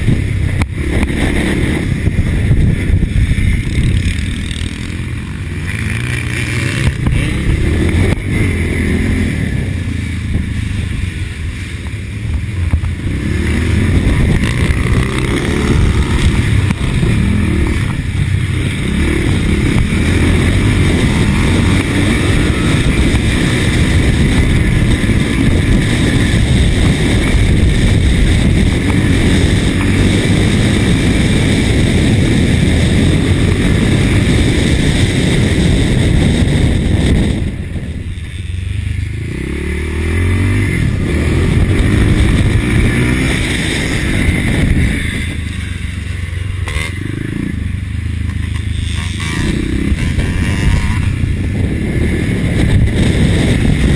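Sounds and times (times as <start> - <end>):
motocross bike engine: 0.0 - 53.9
wind buffeting microphone: 0.0 - 53.9.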